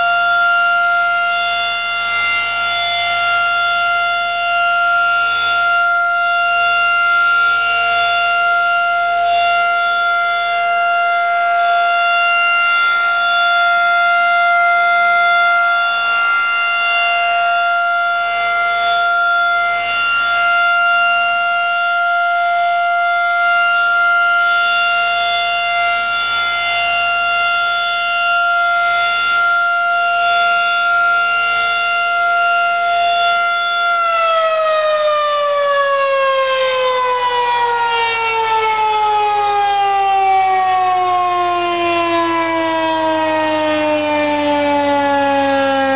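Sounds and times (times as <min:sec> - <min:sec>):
rotating warning siren steady tone: 0:00.0 - 0:45.9.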